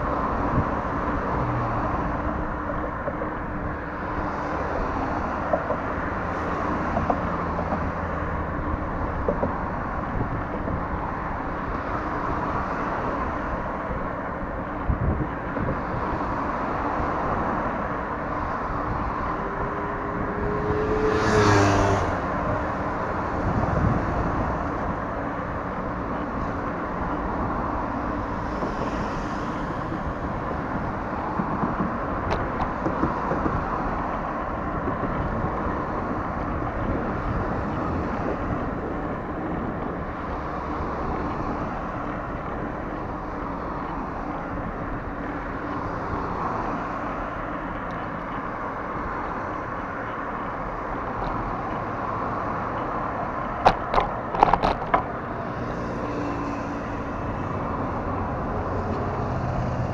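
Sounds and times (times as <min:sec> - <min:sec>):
cars passing on busy road: 0:00.0 - 0:59.9.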